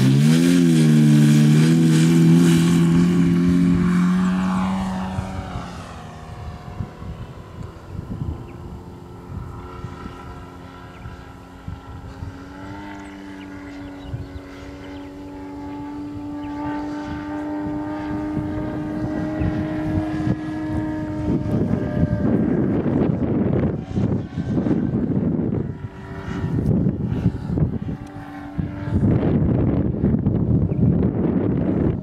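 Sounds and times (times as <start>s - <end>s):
model plane engine in flight: 0.0s - 32.0s.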